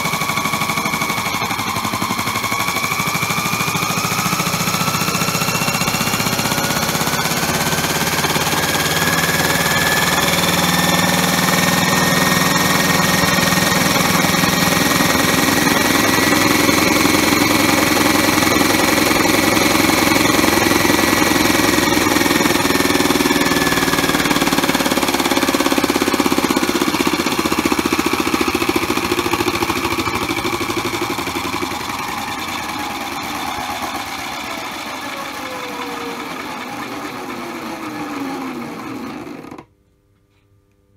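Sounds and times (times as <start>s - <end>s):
toy washing machine spinning whine: 0.0s - 39.7s.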